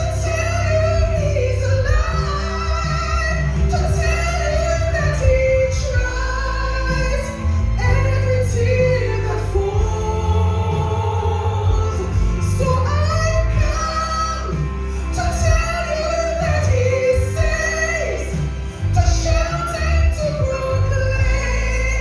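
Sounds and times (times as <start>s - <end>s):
instrumental accompaniment with bass: 0.0s - 22.0s
woman singing gospel: 0.0s - 22.0s.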